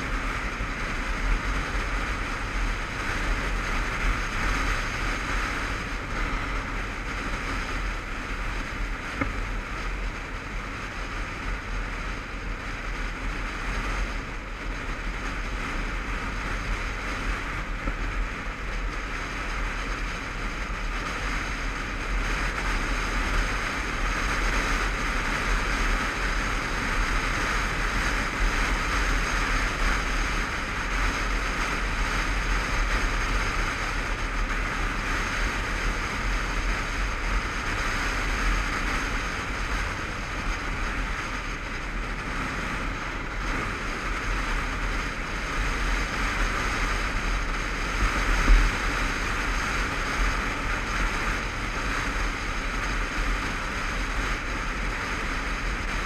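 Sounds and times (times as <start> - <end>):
motorcycle engine: 0.0 - 56.0
road rumble: 0.0 - 56.0
wind buffeting microphone: 0.0 - 56.0.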